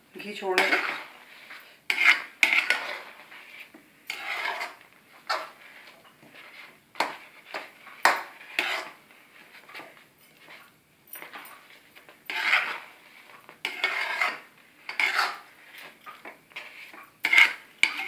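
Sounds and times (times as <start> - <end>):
metal spatula scraping metal pan: 0.2 - 9.0, 12.3 - 18.0.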